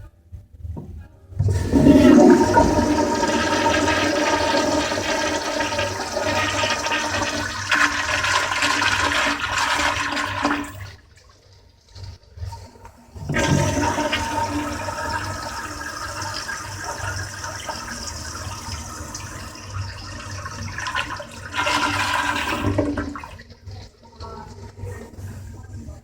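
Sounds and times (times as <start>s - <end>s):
toilet flushing: 1.4s - 26.0s.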